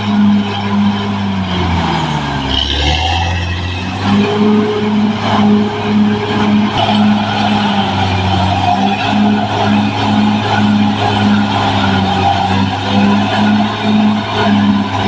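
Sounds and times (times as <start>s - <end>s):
bulldozer diesel engine pulsing: 0.0s - 15.0s.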